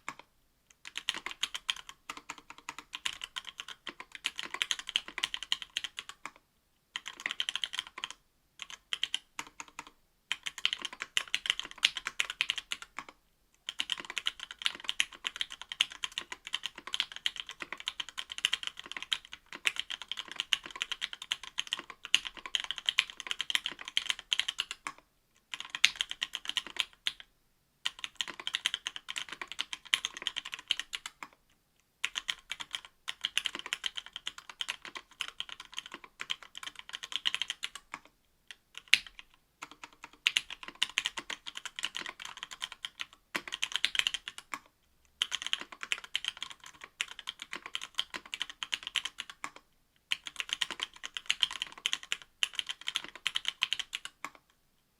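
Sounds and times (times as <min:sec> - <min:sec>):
mechanical keyboard typing: 0:00.0 - 0:06.4, 0:07.0 - 0:31.4, 0:32.0 - 0:54.4.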